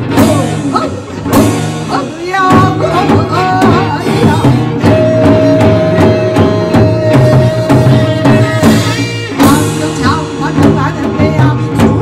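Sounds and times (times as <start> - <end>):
drum strikes on steady beat: 0.0 - 12.0
traditional music ensemble: 0.0 - 12.0.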